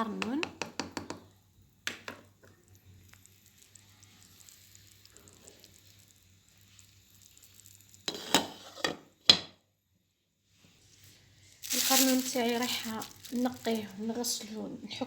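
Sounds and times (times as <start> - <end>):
faint sizzling in a pan: 1.2 - 15.0.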